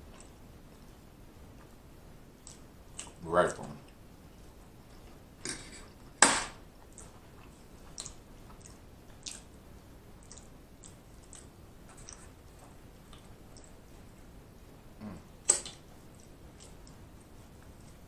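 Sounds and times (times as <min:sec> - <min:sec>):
wet chewing with mouth clicks: 0:00.0 - 0:01.8, 0:02.4 - 0:03.2, 0:03.8 - 0:18.0.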